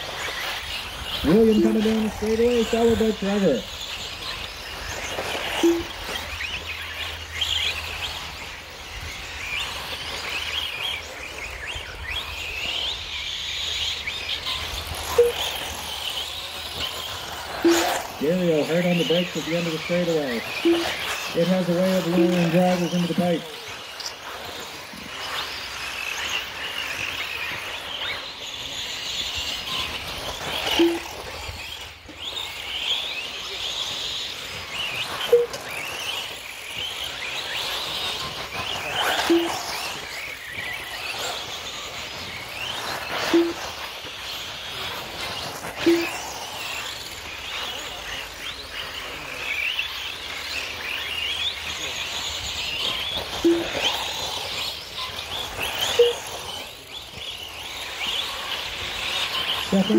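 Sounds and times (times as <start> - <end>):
electric motors whining: 0.0 - 59.9.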